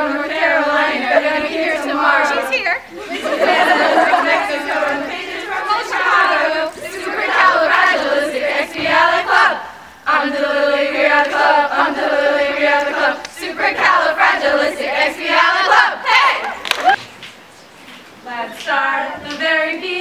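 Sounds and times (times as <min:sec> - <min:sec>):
girls singing in unison: 0:00.0 - 0:17.0, 0:18.2 - 0:20.0.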